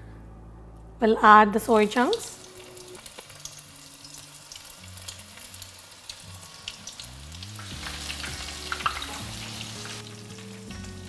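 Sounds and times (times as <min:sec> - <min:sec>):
oil sizzling and crackling: 0:01.6 - 0:11.0.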